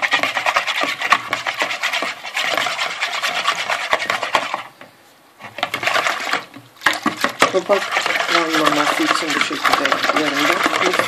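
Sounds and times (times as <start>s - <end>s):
whisk scraping plastic bowl: 0.0s - 11.0s.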